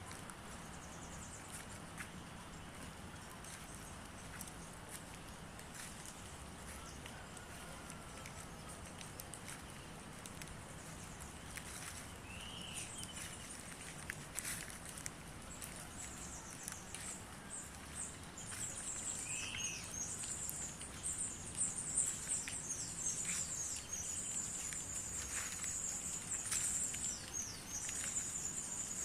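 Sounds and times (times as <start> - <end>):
rustling crackles: 0.0 - 29.0
small birds chirping: 0.0 - 29.0.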